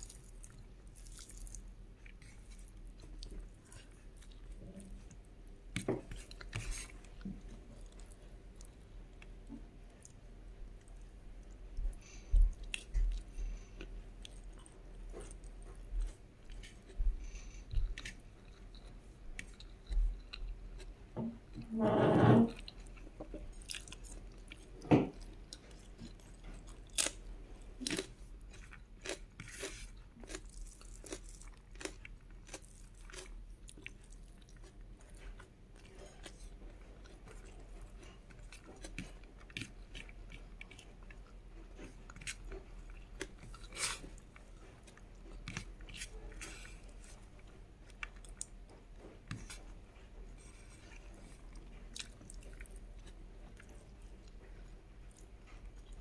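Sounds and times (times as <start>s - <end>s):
chewing and crunching food: 0.0s - 21.7s, 22.5s - 56.0s.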